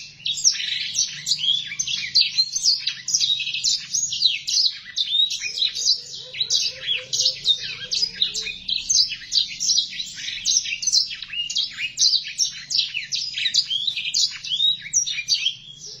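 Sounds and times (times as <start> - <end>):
canary singing warbling song: 0.0 - 16.0.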